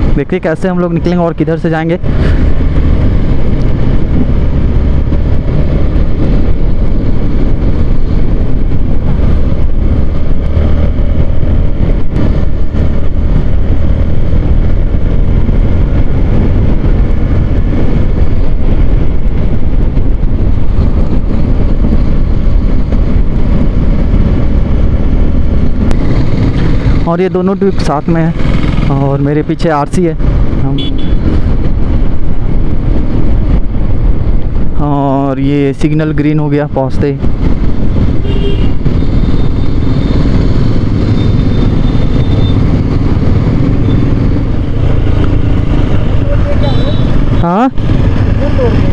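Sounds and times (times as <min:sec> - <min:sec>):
motorcycle engine cruising: 0:00.0 - 0:48.9
wind rumble on microphone: 0:00.0 - 0:48.9.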